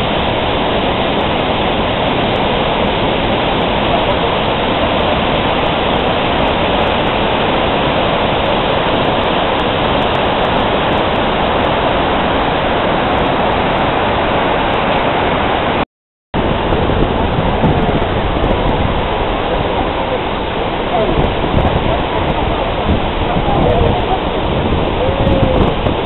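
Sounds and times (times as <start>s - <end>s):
waterfall roaring: 0.0s - 15.8s, 16.4s - 26.0s.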